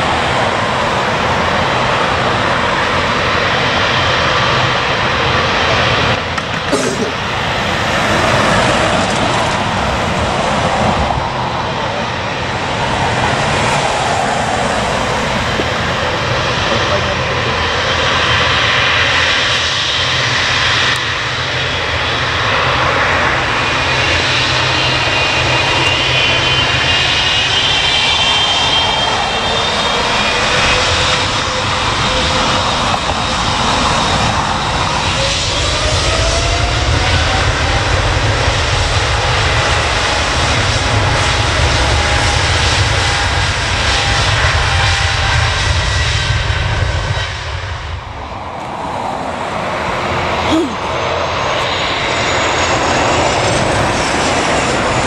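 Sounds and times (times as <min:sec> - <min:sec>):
airliner engines roaring: 0:00.0 - 0:55.0.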